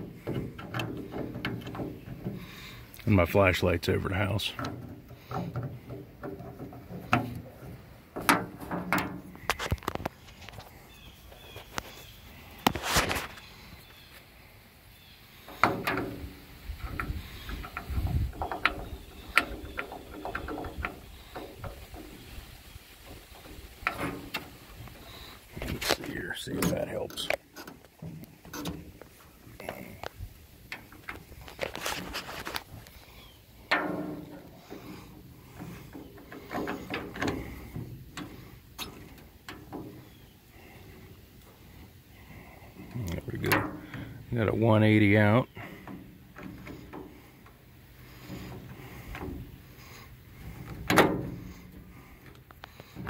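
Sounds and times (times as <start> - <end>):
metal clicks and knocks: 0.0 - 10.7, 15.5 - 40.7, 42.8 - 53.0.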